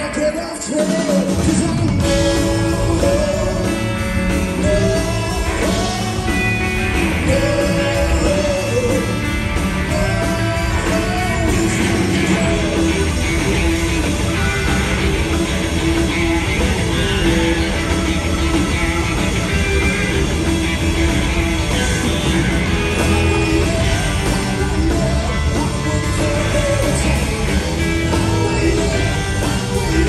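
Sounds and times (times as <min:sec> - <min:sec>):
drum kit: 0:00.0 - 0:30.0
electric guitars: 0:00.0 - 0:30.0
electric bass: 0:01.0 - 0:30.0.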